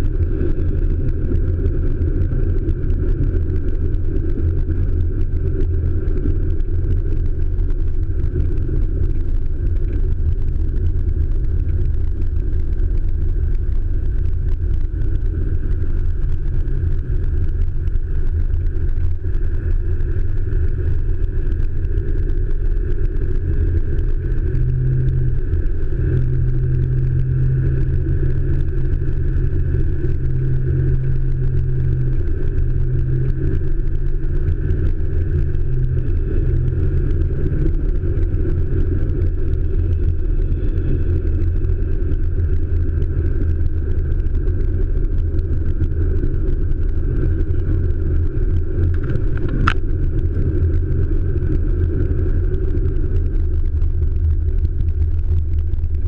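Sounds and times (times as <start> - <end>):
road noise: 0.0 - 54.6
diesel engine drone: 0.0 - 56.0.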